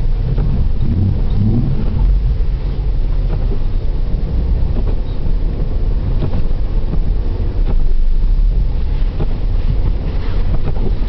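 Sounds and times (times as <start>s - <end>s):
car engine rumble: 0.0s - 11.0s
tyres on slushy road: 0.0s - 11.0s.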